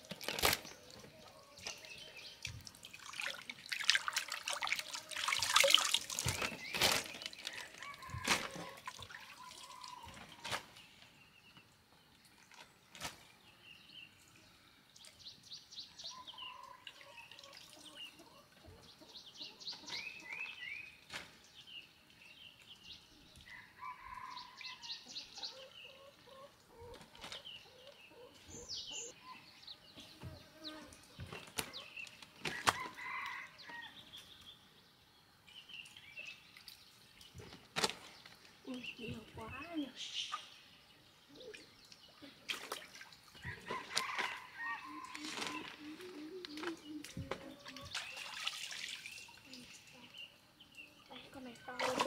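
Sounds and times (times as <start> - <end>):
birds chirping and trilling: 0.3 - 2.8, 6.2 - 52.0.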